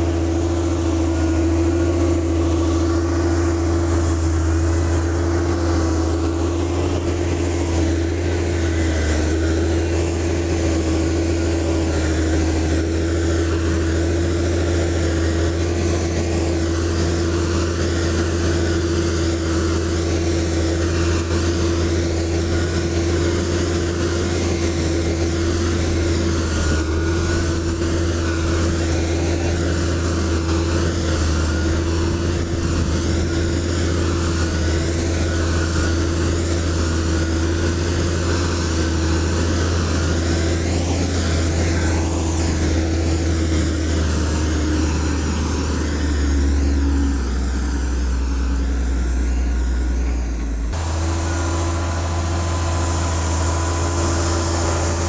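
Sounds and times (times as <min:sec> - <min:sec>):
constant hum: 0:00.0 - 0:55.0
diesel engine droning: 0:00.0 - 0:55.0.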